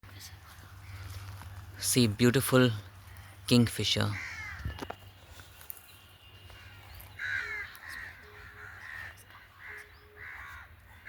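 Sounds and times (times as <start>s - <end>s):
bird harsh caw-like calls: 0.5s - 1.8s, 3.0s - 11.0s.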